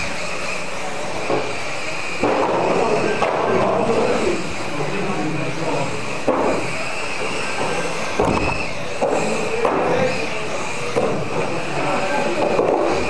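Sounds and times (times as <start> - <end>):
toy car motor whine: 0.0 - 13.0.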